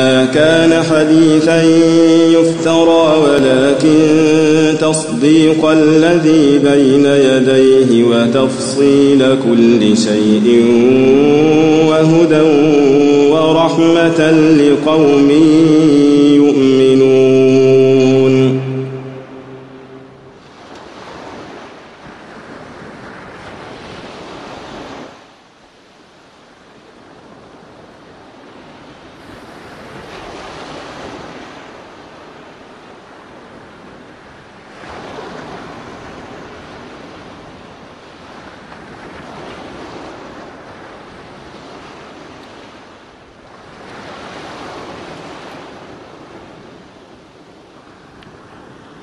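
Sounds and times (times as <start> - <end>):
sea waves breaking: 0.0 - 49.0.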